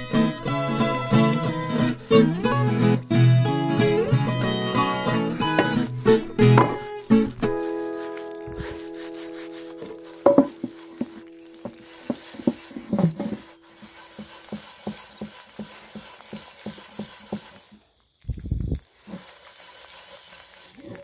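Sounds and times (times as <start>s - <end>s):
sponge scrubbing pot: 0.0s - 18.1s, 18.8s - 21.0s.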